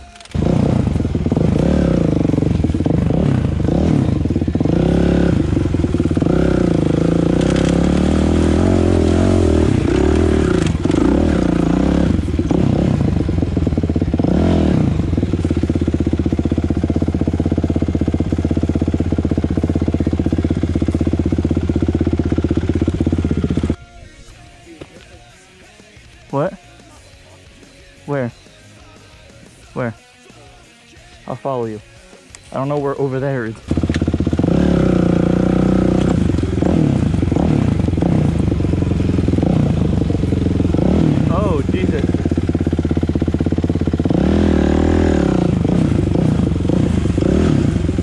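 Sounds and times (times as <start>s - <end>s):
dirt bike engine revving: 0.0s - 23.8s, 32.6s - 48.0s.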